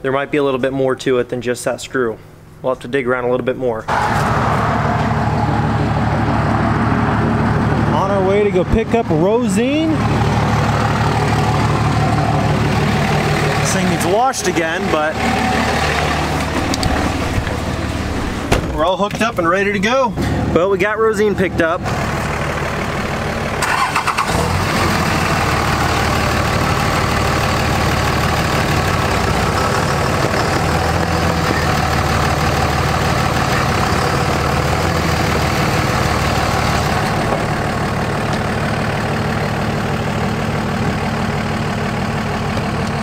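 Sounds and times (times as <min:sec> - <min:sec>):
diesel pickup engine idling: 0:03.9 - 0:43.0.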